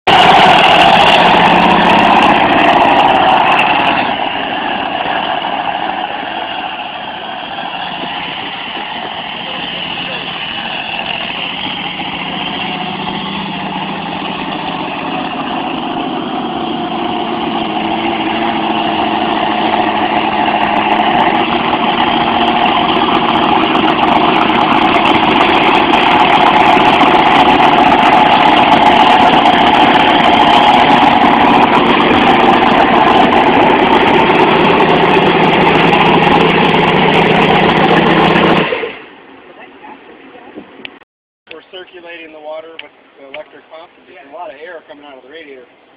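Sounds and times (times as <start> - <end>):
monster truck engine running: 0.1 - 39.4.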